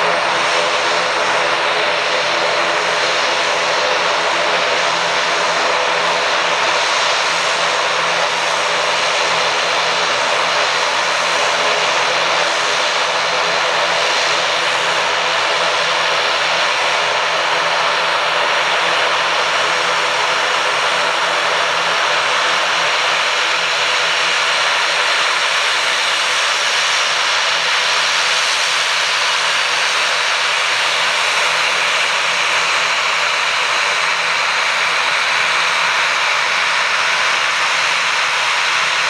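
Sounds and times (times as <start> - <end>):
airliner engines running: 0.0 - 39.0.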